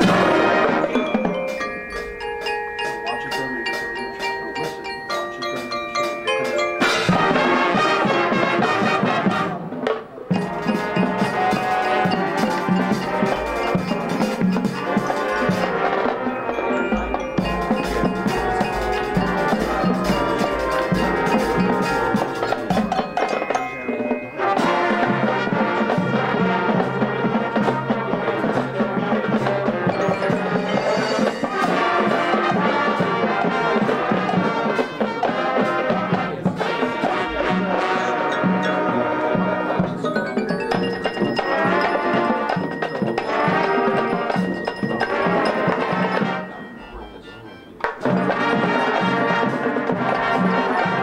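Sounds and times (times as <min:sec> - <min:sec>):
drums: 0:00.0 - 0:51.0
mallet percussion: 0:00.0 - 0:51.0
marching band brass: 0:00.0 - 0:51.0.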